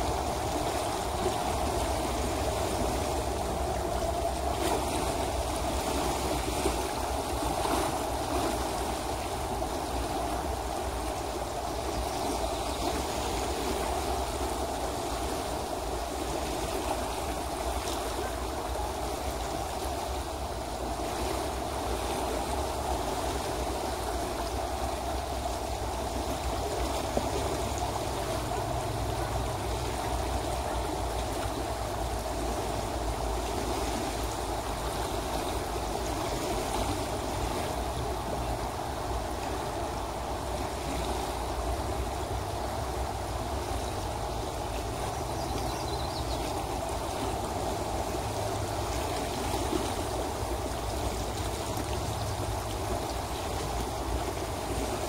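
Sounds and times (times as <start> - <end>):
river water rushing over riffle: 0.0 - 55.0.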